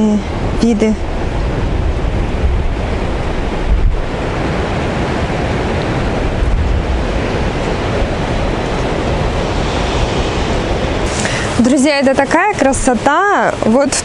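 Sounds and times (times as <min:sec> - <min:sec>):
wind buffeting the microphone: 0:00.0 - 0:14.0
sea surf: 0:00.1 - 0:14.0.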